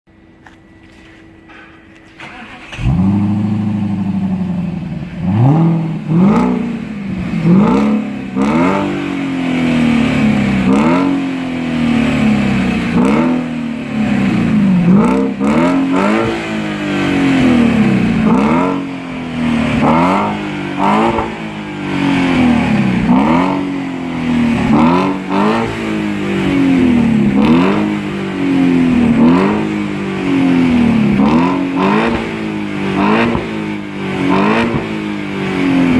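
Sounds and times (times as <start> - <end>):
car engine starting: 1.4 - 35.9
car engine revving: 2.2 - 35.9.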